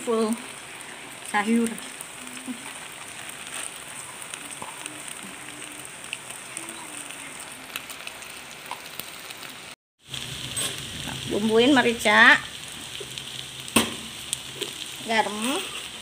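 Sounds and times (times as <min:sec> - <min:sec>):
wok sizzling with crackles: 0:00.0 - 0:16.0.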